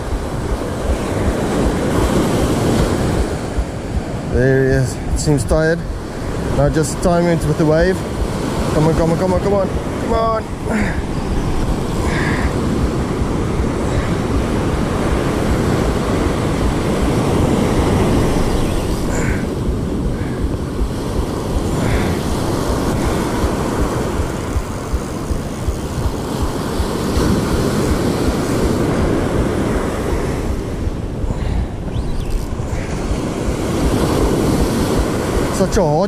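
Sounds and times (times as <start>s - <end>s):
surf breaking on beach: 0.0s - 36.0s
wind buffeting microphone: 0.0s - 36.0s.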